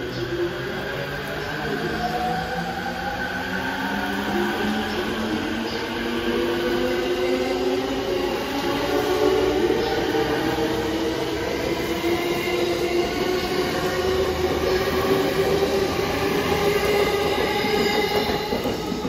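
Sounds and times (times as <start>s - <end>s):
train wheels on rails: 1.7s - 19.0s.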